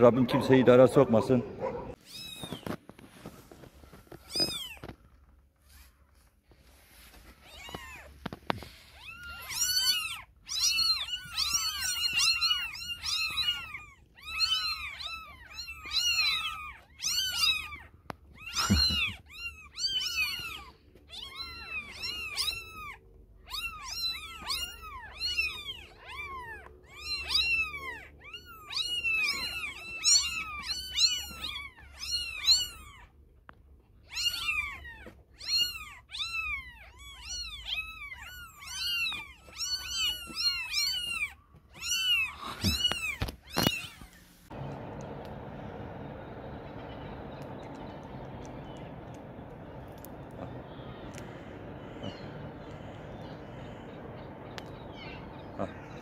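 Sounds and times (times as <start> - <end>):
kittens mewing: 0.0 - 2.8, 7.4 - 33.2, 34.0 - 56.0.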